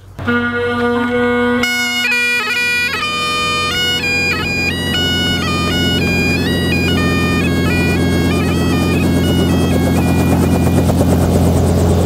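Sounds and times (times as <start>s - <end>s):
bagpipes playing: 0.0s - 11.6s
helicopter rotor chop: 1.6s - 12.0s.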